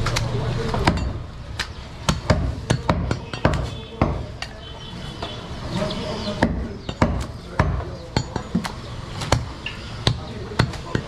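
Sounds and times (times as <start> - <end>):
cleaver chopping meat and bone: 0.0 - 4.6, 6.2 - 11.0.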